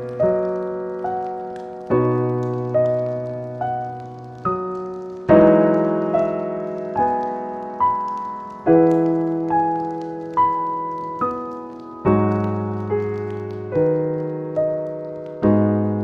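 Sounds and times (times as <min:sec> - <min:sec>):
gentle solo piano music: 0:00.0 - 0:16.0.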